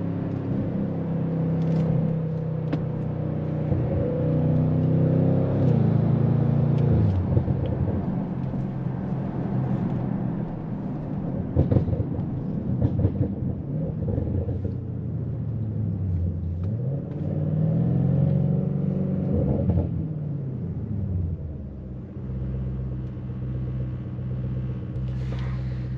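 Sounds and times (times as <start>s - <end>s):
car engine revving: 0.0s - 14.8s, 15.7s - 25.8s.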